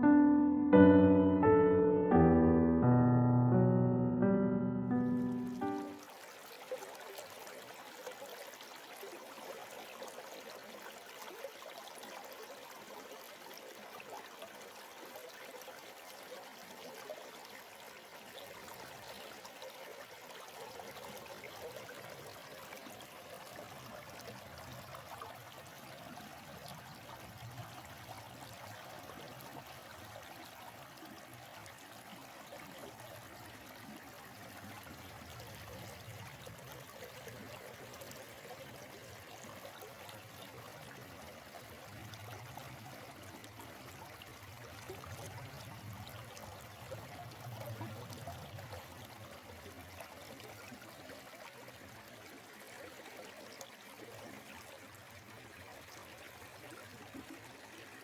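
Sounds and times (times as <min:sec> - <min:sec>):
stream water flowing: 0:05.0 - 0:58.0.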